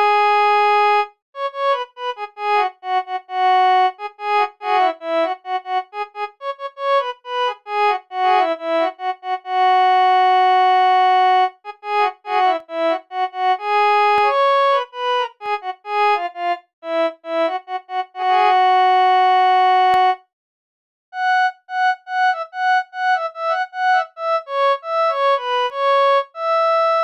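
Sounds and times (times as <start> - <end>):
harmonium melody: 0.0 - 20.2, 21.2 - 27.0.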